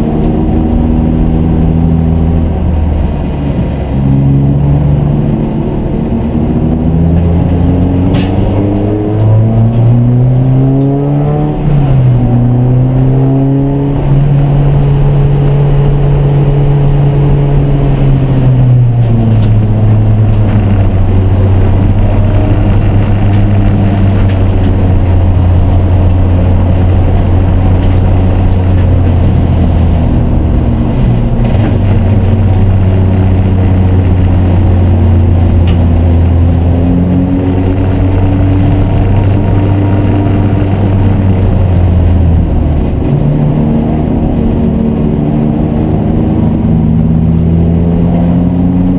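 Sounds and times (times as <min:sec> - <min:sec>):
race car engine running hard: 0:00.0 - 0:48.9.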